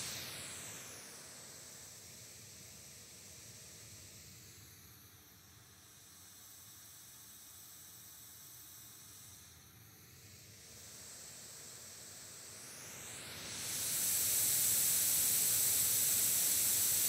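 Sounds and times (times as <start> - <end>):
faint hiss of test noise: 0.0 - 17.0.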